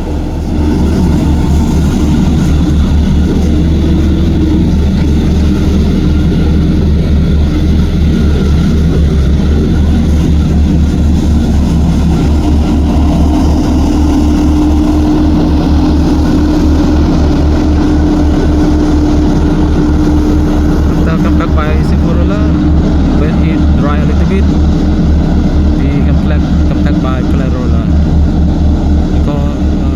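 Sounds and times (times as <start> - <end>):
diesel machine engine droning: 0.0 - 29.9
steady whine: 0.0 - 29.9.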